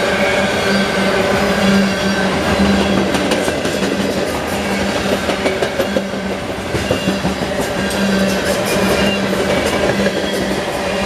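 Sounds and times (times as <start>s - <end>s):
train wheels rushing on rail: 0.0s - 11.0s.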